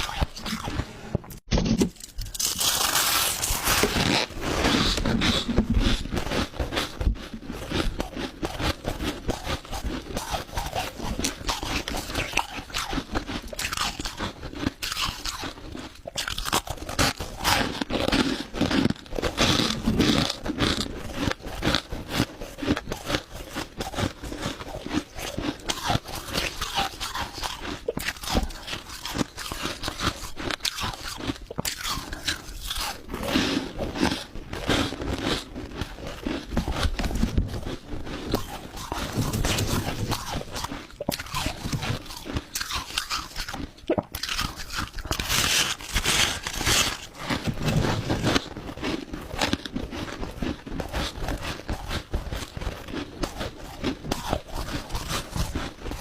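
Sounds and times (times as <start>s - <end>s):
crushed ice being chewed: 0.0s - 1.2s, 2.0s - 56.0s.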